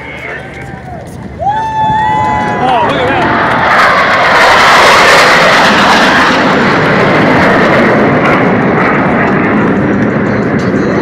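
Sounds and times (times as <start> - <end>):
jets roaring past: 0.0 - 11.0.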